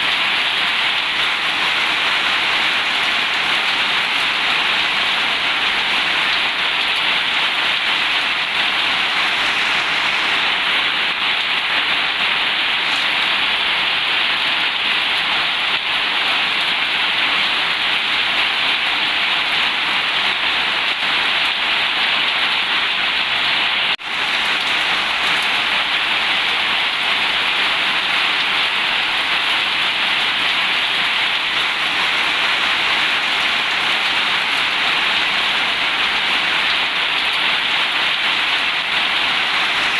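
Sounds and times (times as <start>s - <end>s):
heavy rain on metal roof: 0.0s - 39.9s.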